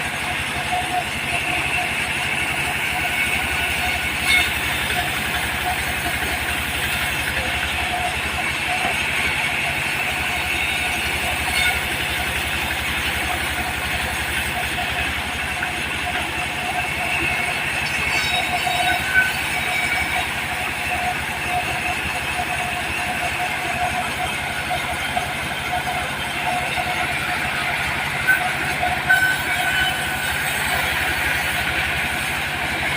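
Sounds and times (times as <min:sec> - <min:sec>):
diesel engine running: 0:00.0 - 0:32.9
spinning saw whine: 0:00.0 - 0:32.9.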